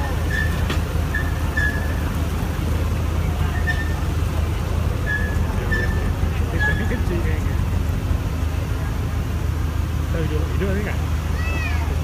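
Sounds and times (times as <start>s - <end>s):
off-road vehicle engine rumbling: 0.0s - 12.0s.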